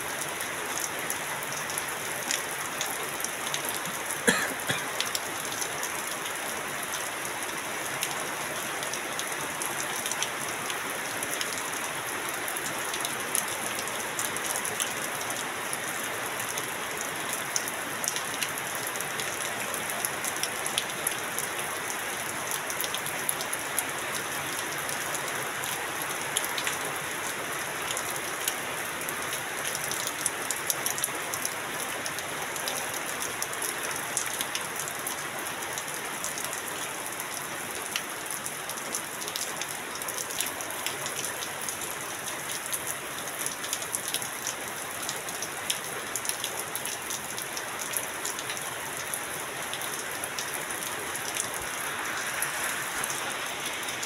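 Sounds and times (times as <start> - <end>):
heavy rain: 0.0 - 54.0
water streaming off metal roof: 0.0 - 54.0.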